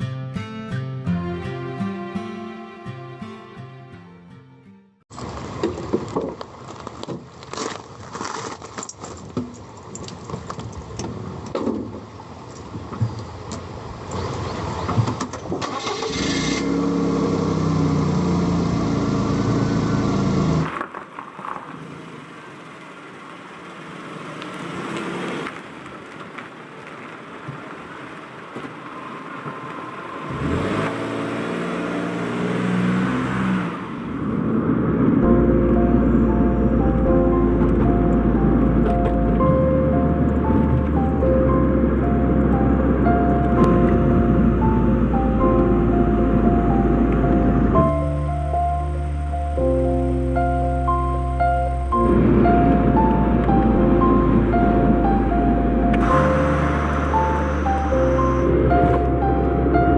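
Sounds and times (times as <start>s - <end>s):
vehicle engine humming: 1.0s - 6.7s, 15.8s - 59.9s.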